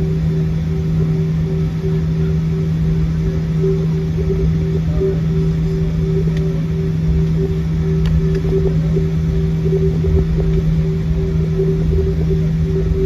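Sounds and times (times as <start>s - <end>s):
jet engine hum: 0.0s - 13.0s
low rumble: 0.0s - 13.0s.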